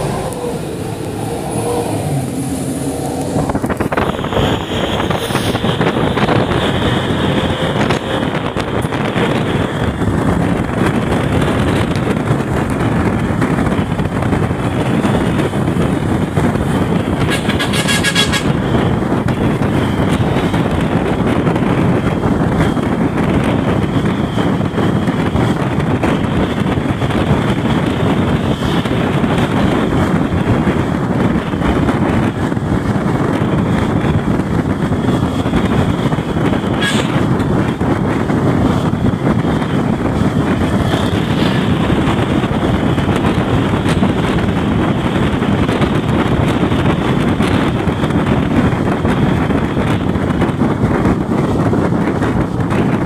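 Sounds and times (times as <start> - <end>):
wind and road noise in bus: 0.0 - 53.0.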